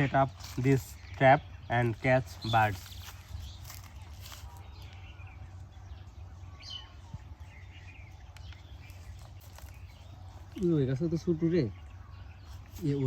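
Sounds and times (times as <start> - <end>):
low background rumble: 0.0 - 10.6
small birds chirping: 0.0 - 13.0.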